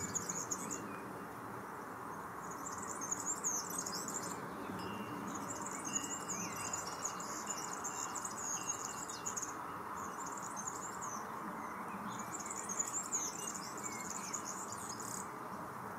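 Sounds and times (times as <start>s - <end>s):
small bird singing: 0.0s - 1.0s, 2.4s - 15.3s
steady background hiss: 0.0s - 15.9s.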